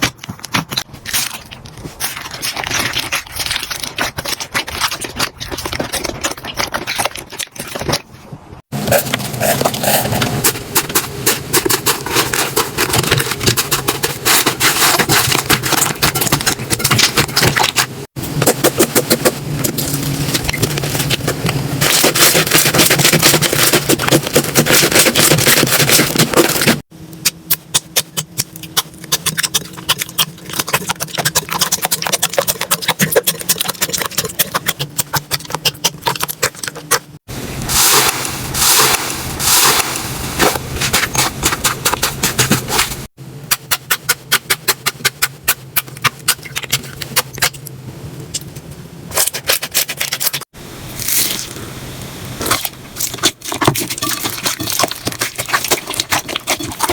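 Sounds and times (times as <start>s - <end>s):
slime squishing and crackling: 0.0s - 47.7s, 52.3s - 56.9s.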